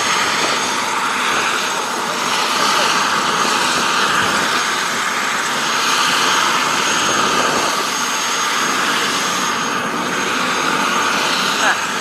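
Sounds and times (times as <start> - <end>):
helicopter rotor and turbine: 0.0 - 12.0.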